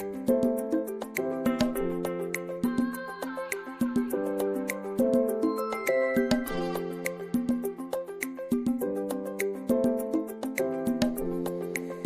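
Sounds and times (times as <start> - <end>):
light instrumental music: 0.0 - 12.0.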